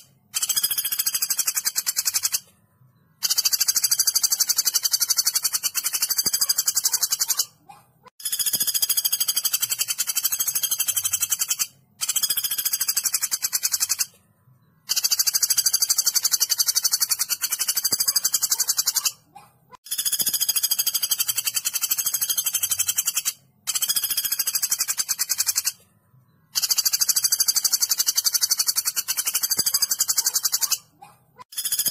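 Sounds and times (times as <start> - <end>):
woodpecker rattling trills: 0.0 - 2.5, 3.2 - 14.1, 14.8 - 25.8, 26.5 - 31.9.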